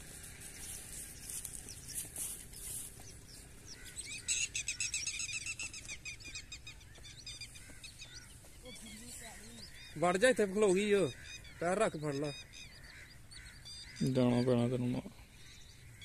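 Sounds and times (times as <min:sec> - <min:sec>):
flock of birds chirping: 0:00.0 - 0:16.0.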